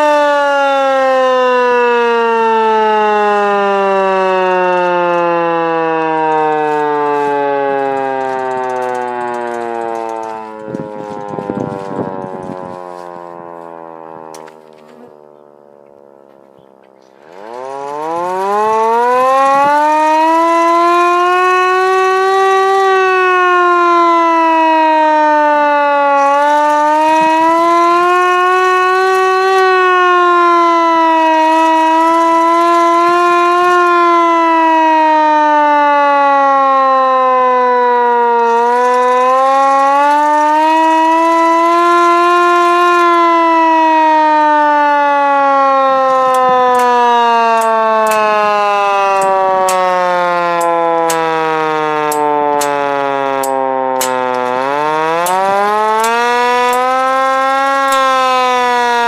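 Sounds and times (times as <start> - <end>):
hand-cranked siren wailing: 0.0 - 59.0.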